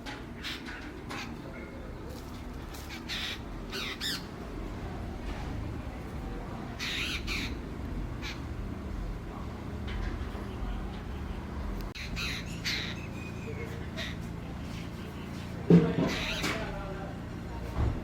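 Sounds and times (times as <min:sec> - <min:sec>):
harsh bird calls: 0:00.1 - 0:05.0, 0:05.9 - 0:09.4, 0:10.1 - 0:16.9.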